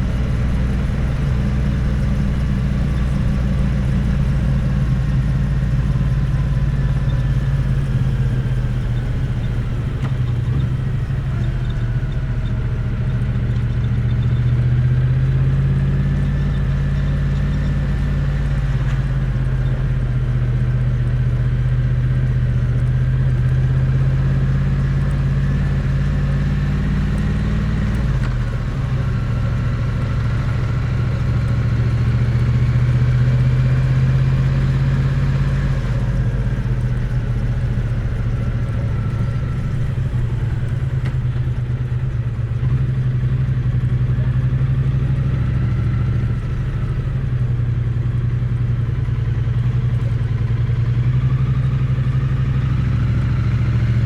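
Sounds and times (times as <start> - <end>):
motorcycle engine and exhaust running: 0.0 - 54.0.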